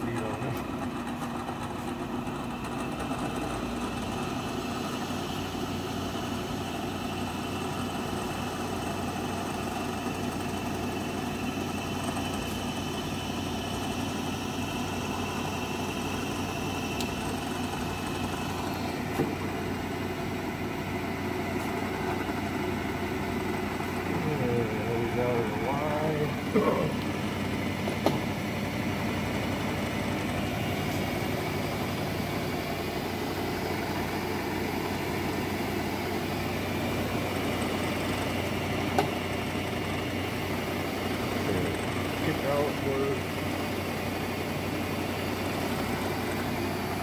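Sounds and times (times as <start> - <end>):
milling machine motor hum and whine: 0.0 - 47.0
high whine: 1.6 - 47.0.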